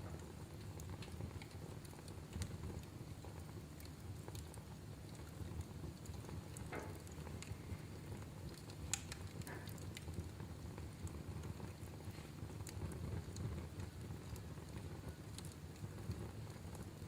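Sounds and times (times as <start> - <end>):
wood fire burning: 0.0 - 17.0.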